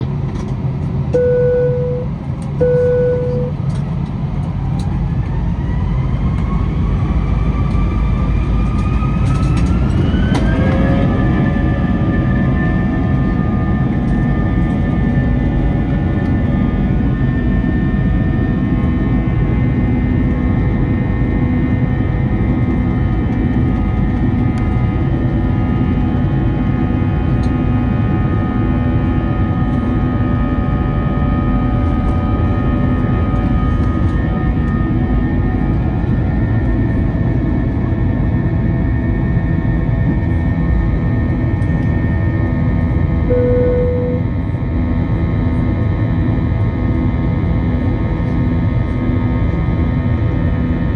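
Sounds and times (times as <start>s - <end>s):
heavy rumble of takeoff roll: 0.0s - 50.9s
jet engine whine rising: 0.2s - 50.9s.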